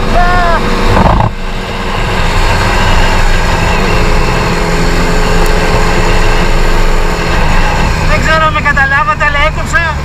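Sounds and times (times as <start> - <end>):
wind rush on microphone: 0.0 - 8.7
moped engine running: 0.0 - 10.0.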